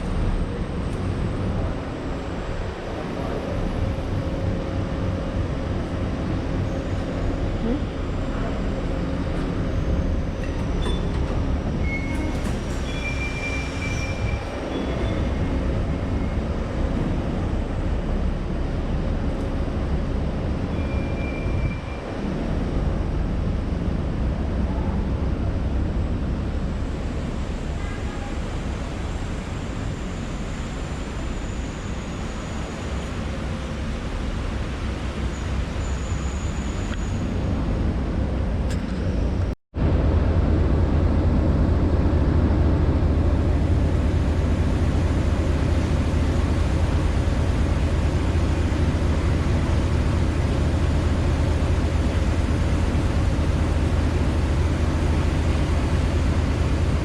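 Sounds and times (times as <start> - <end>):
ferry engine rumbling: 0.0 - 57.0.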